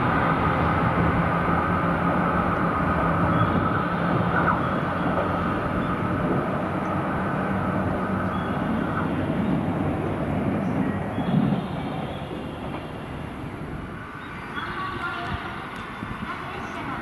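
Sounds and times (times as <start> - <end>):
diesel train engine droning: 0.0 - 17.0.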